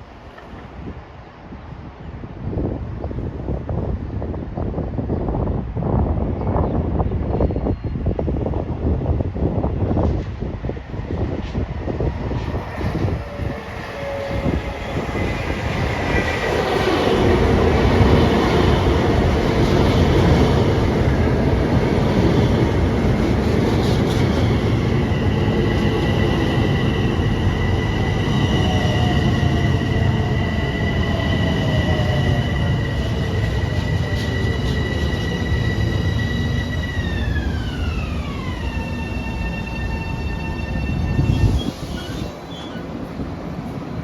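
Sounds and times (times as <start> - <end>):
train passing on tracks: 0.0 - 44.0.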